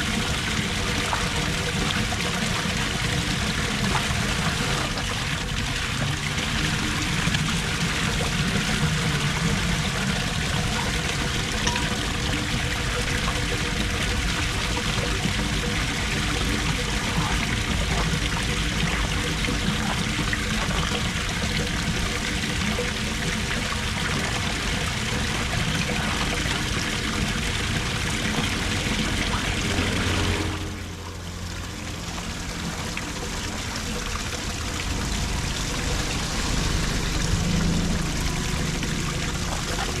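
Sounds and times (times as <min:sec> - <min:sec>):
water pouring into storm drain: 0:00.0 - 0:40.0.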